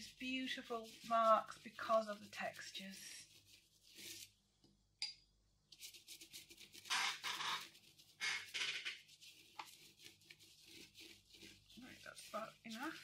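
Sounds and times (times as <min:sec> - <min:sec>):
paintbrush scrubbing on paper: 0:00.0 - 0:04.4, 0:05.7 - 0:13.0.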